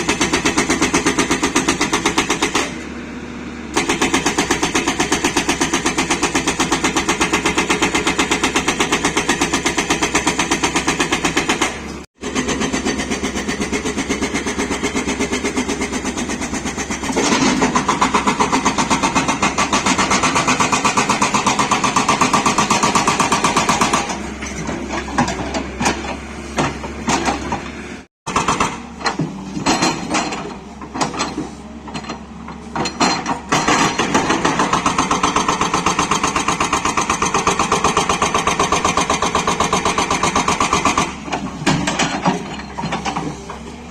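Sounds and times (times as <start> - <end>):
hydraulic breaker pounding stone: 0.0 - 2.9, 3.7 - 43.9
diesel engine running: 0.0 - 43.9.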